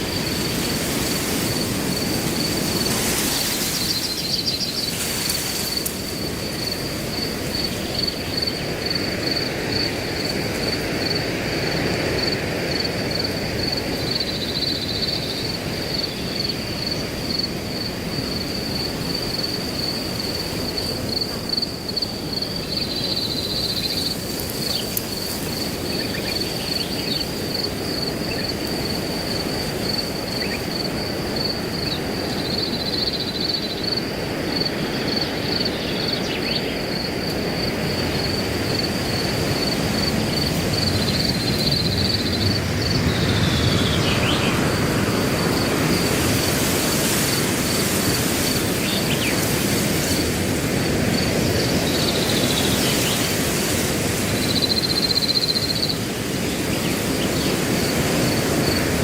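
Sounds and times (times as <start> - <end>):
cricket chirping: 0.0 - 59.0
wind rushing through grass: 0.0 - 59.0.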